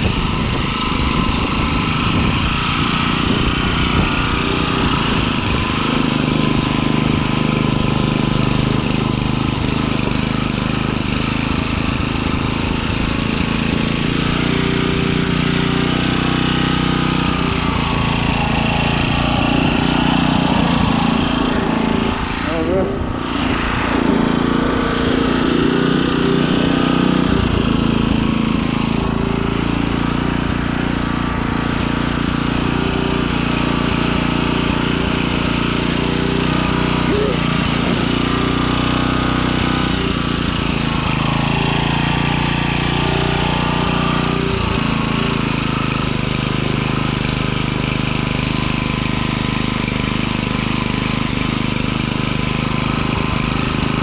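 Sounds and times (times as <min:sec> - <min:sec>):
garden tiller engine running: 0:00.0 - 0:54.0
tines churning soil: 0:00.0 - 0:54.0.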